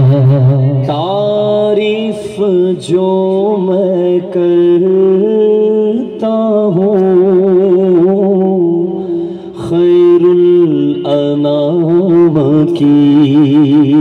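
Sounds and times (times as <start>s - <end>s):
hummed vocal drone: 0.0s - 14.0s
man singing devotional song: 0.0s - 14.0s.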